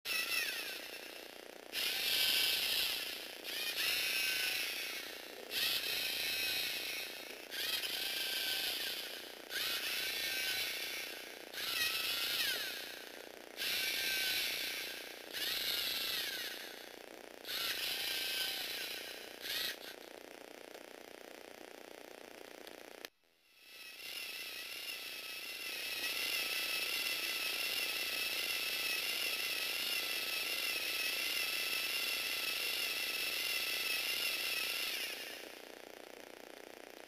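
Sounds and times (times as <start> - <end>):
plastic gears whirring and clicking: 0.1 - 37.0.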